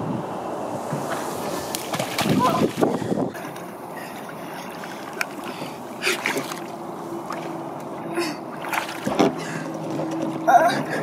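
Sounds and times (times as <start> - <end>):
water noise: 0.0 - 11.0.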